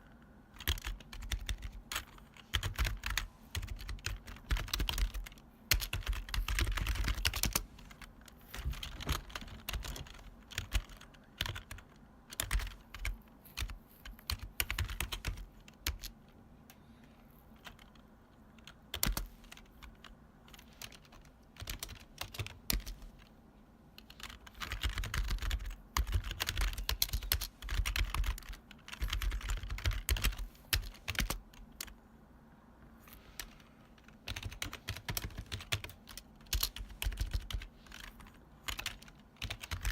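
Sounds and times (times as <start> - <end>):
clacky keyboard typing: 0.0 - 16.4, 17.5 - 23.3, 24.0 - 32.0, 33.4 - 39.9.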